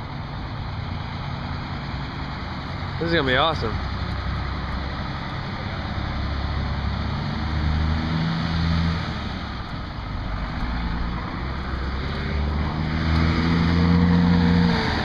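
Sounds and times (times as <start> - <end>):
truck engine running: 0.0 - 7.4, 8.9 - 15.0.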